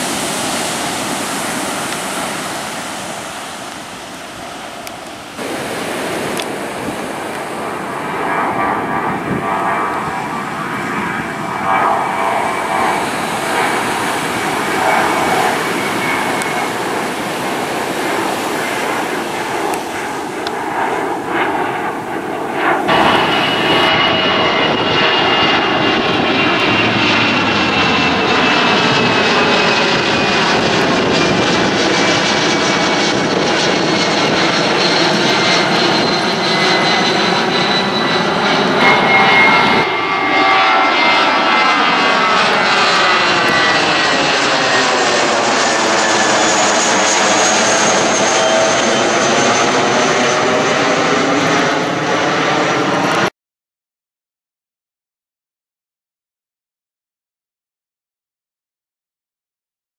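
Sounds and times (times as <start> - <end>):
jet airliners passing overhead: 0.0 - 53.3.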